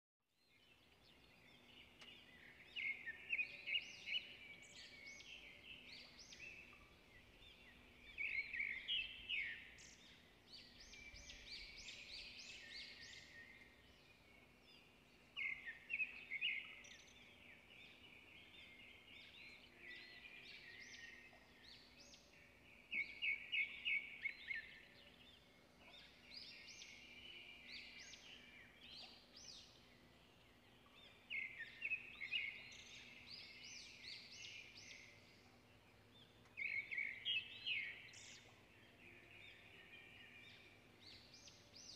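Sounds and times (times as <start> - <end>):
birds chirping and trilling: 0.4 - 41.9.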